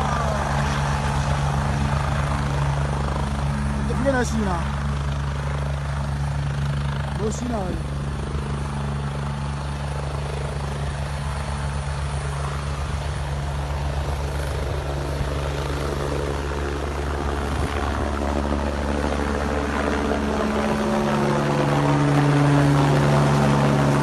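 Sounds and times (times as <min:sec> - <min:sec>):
helicopter rotor and turbine: 0:00.0 - 0:24.0.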